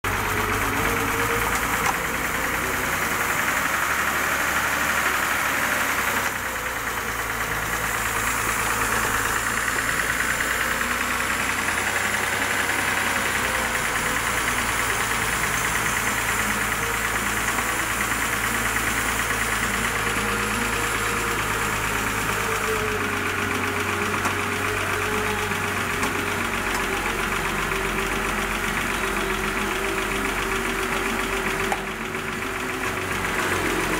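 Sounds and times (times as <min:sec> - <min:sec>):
engine idling with valve ticking: 0:00.0 - 0:33.9.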